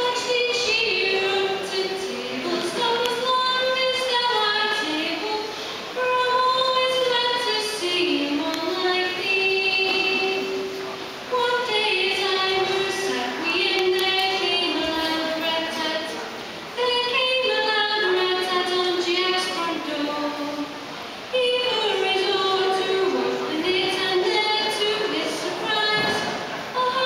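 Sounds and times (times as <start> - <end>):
high voice singing: 0.0 - 27.0.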